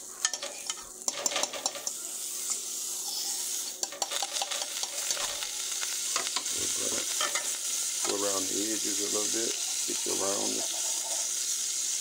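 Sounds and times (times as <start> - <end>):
pancake sizzling in frying pan: 0.0 - 12.0.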